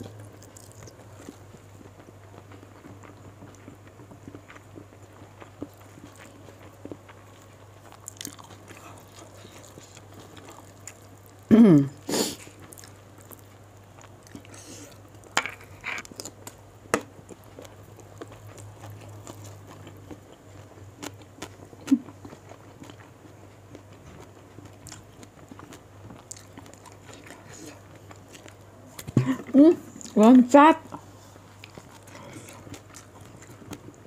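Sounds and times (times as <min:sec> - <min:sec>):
person chewing: 0:00.0 - 0:30.2, 0:30.9 - 0:34.0
low steady hum: 0:00.0 - 0:34.0.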